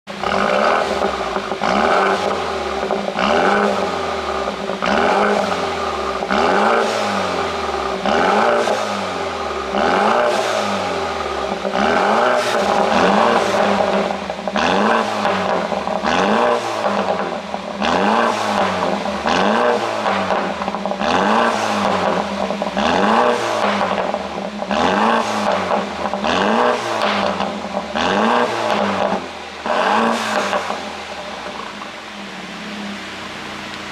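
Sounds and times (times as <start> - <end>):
car engine revving: 0.0 - 33.9
exhaust pops and crackles: 0.0 - 33.9.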